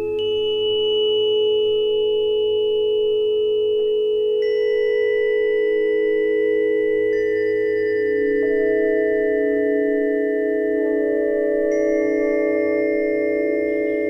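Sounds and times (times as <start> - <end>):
electronic sine tone chord: 0.0 - 14.0.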